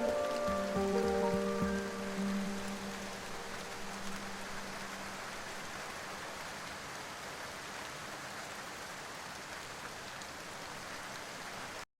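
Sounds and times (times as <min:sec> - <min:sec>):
rain falling on a surface: 0:00.0 - 0:11.9.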